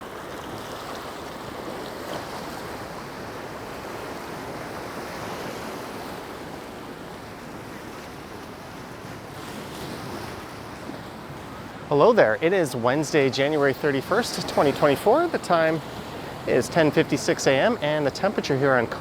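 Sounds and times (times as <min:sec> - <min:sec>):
sea waves washing onto sand: 0:00.0 - 0:19.0.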